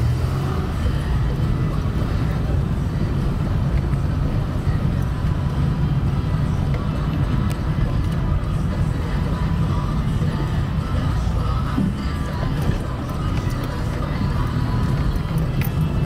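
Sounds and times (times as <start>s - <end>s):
car engine rumble: 0.0s - 16.0s
road noise inside car: 0.0s - 16.0s.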